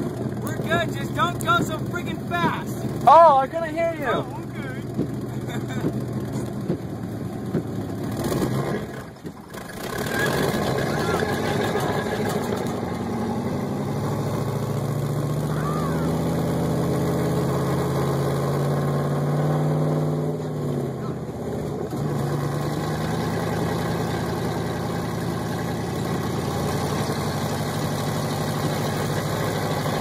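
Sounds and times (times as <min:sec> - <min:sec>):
pickup truck engine under load: 0:00.0 - 0:30.0.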